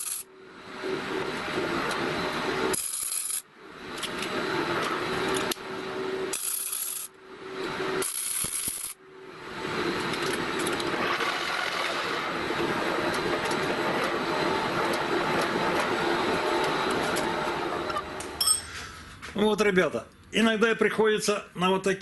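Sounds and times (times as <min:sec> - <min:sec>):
metal lathe whirring: 0:00.3 - 0:18.6.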